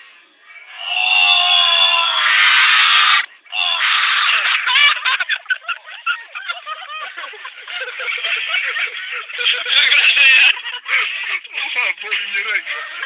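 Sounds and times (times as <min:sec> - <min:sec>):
people laughing and shrieking: 0:00.5 - 0:13.0.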